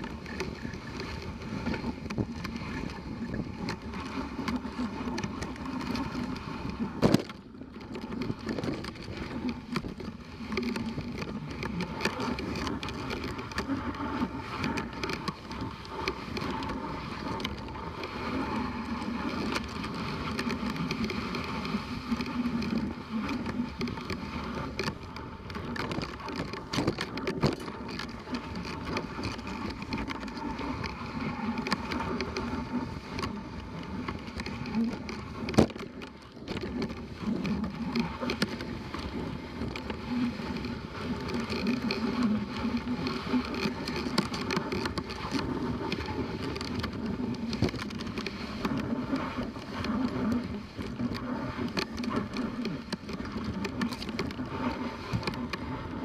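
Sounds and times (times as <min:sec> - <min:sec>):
sled clicks and rattles: 0:00.0 - 0:56.0
sled runners scraping snow: 0:00.0 - 0:56.0.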